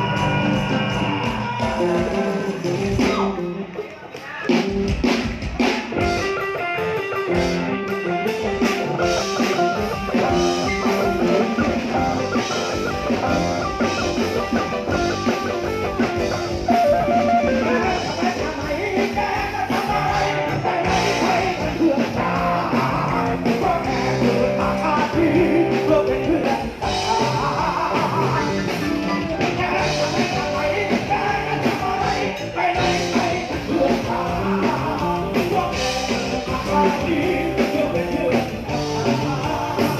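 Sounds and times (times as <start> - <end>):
person singing: 0.0 - 4.7, 9.5 - 39.9
drums: 0.0 - 39.9
guitar: 0.0 - 39.9
live band playing: 0.0 - 39.9.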